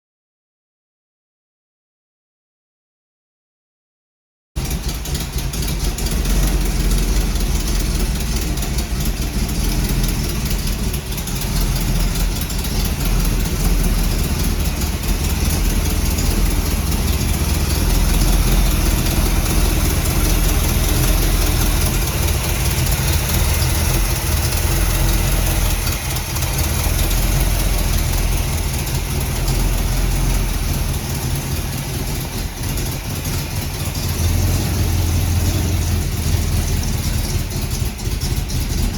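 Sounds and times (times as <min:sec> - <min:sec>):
car engine idling: 0:04.6 - 0:38.9.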